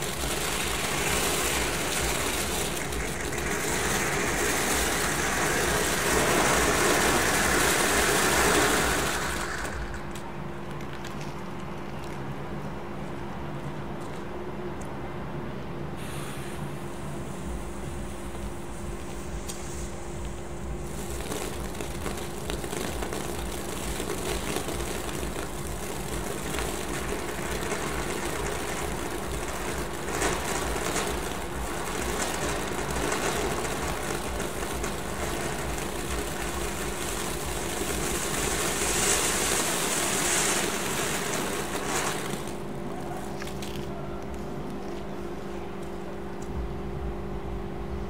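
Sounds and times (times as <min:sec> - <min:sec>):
firework fountain hissing: 0:00.0 - 0:12.2, 0:16.0 - 0:46.1
steady low hum: 0:00.0 - 0:48.0.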